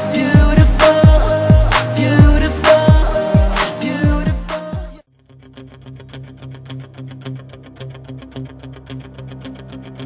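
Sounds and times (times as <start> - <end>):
music with sliding deep bass: 0.0 - 10.0.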